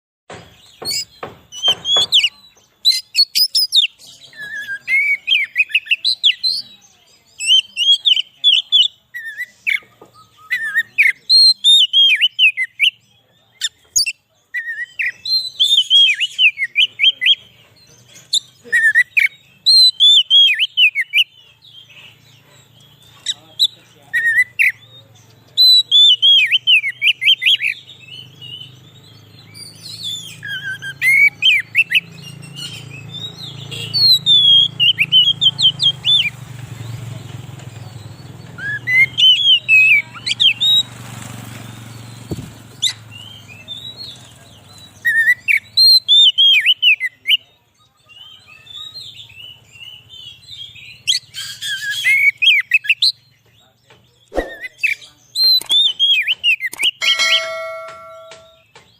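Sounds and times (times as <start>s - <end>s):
bird singing whistled notes: 0.3s - 41.0s, 41.6s - 58.9s.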